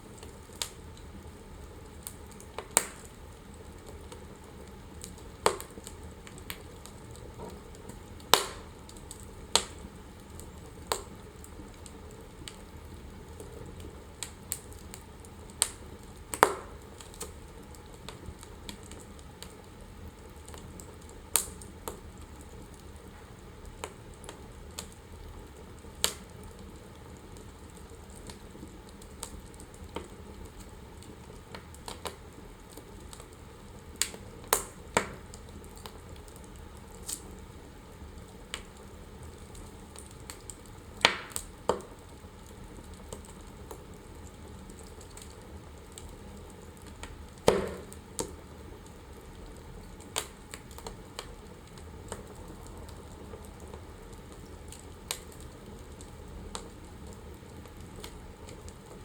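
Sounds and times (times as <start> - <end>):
low fire hiss: 0.0 - 59.0
wood fire crackling and popping: 0.0 - 59.0.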